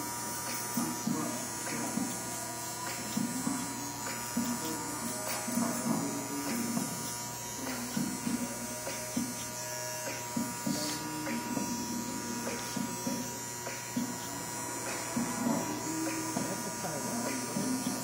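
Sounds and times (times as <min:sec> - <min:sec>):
electric hair clipper buzzing: 0:00.0 - 0:18.0.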